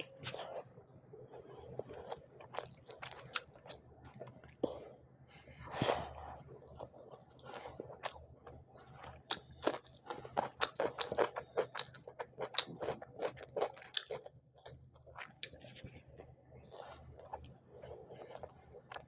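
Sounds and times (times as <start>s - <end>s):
crunching cucumber being chewed: 1.3s - 4.6s, 5.8s - 19.0s.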